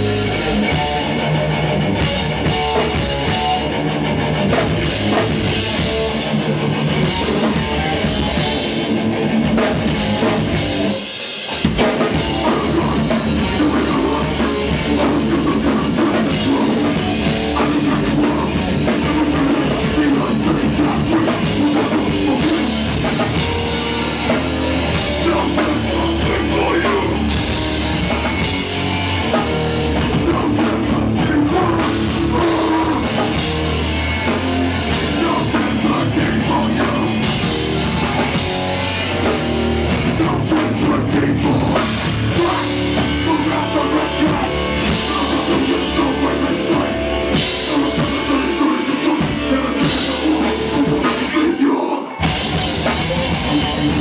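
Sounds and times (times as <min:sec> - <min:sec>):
distorted electric guitar: 0:00.0 - 0:54.0
drum kit: 0:00.0 - 0:54.0.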